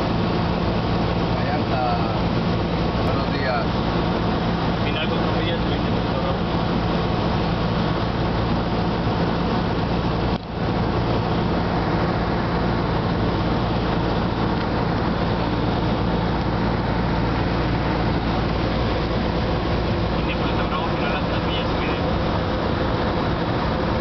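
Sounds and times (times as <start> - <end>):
airplane engine droning in cabin: 0.0 - 24.0.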